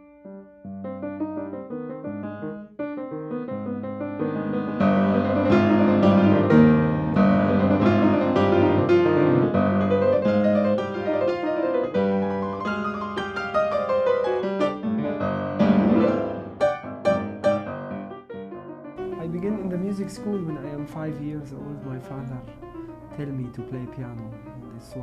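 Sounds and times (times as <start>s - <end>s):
piano notes: 0.0s - 25.0s.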